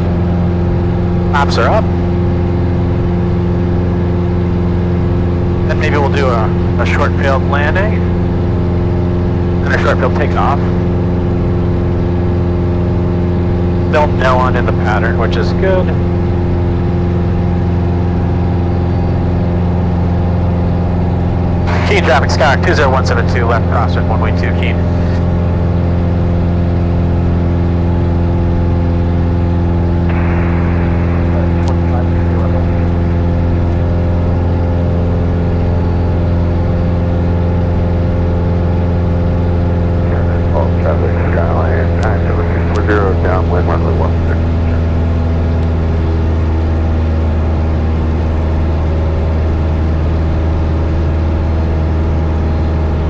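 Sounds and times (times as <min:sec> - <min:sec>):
light aircraft engine droning: 0:00.0 - 0:53.0.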